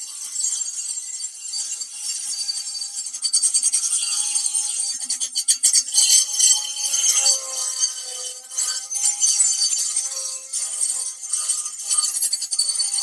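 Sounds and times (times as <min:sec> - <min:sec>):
oscillating tool cutting metal: 0:00.9 - 0:13.0.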